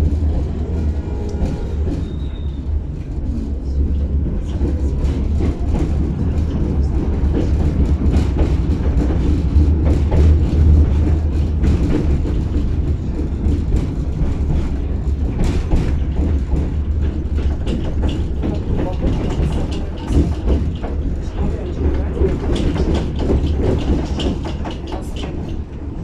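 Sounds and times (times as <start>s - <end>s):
tram wheels rumbling on rail: 0.0s - 26.0s.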